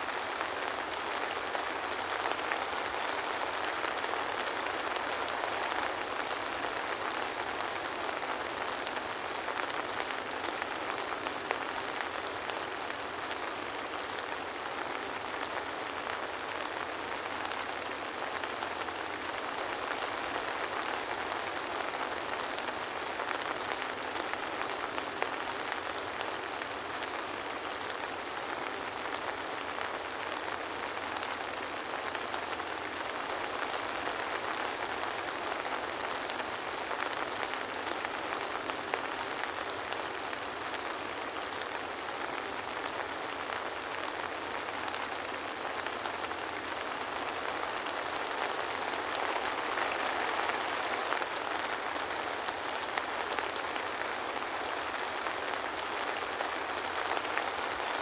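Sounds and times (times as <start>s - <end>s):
soft rain hissing: 0.0s - 58.0s
pattering raindrops: 0.1s - 58.0s.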